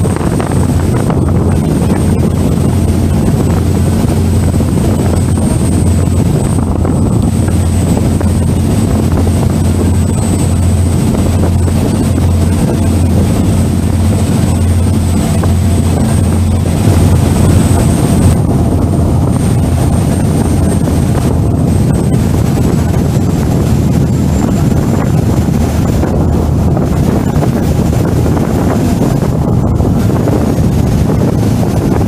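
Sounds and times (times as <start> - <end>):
ferry engines droning: 0.0 - 32.0
wind buffeting microphone: 0.0 - 32.0.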